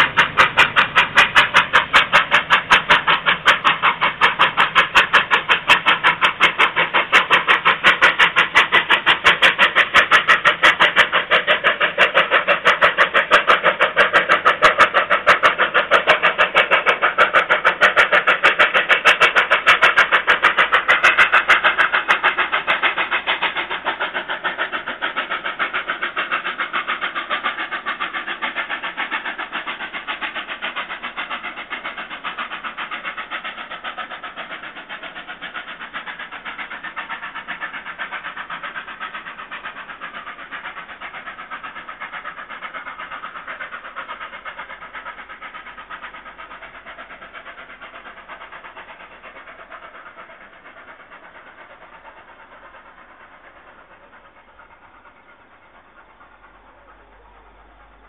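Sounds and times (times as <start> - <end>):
steam locomotive exhaust beats: 0.0 - 58.0
train running noise: 0.0 - 58.0.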